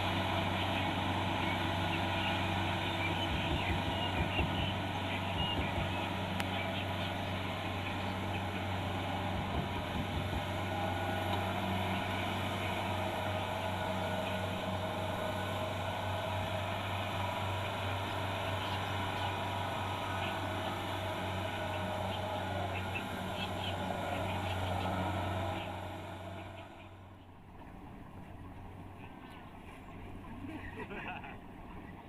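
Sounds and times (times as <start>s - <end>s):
diesel engine drone: 0.0s - 32.0s.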